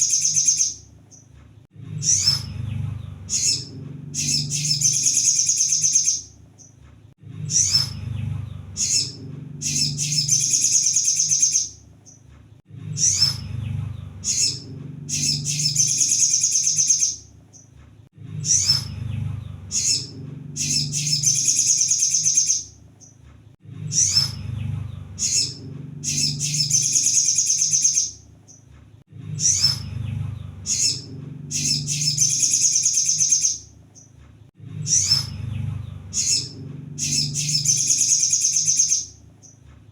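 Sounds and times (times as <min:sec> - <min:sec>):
bird chirps and trill: 0:00.0 - 0:17.7, 0:18.3 - 0:23.2, 0:23.8 - 0:39.6
low hum: 0:00.0 - 0:39.8.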